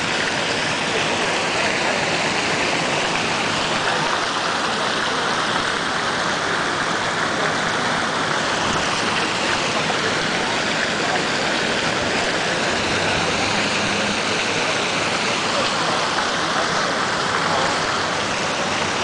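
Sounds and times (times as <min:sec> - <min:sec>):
fountain water splashing into pool: 0:00.0 - 0:19.0.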